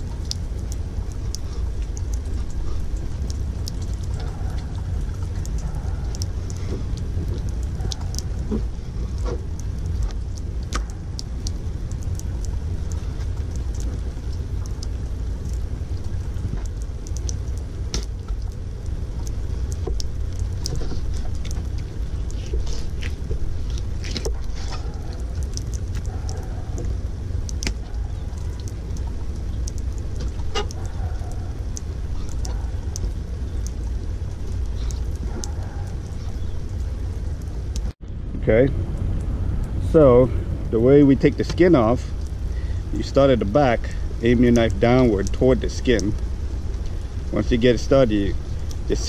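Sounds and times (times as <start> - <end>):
rain low rumble: 0.0 - 49.0
raindrops ticking on camera: 0.0 - 49.0.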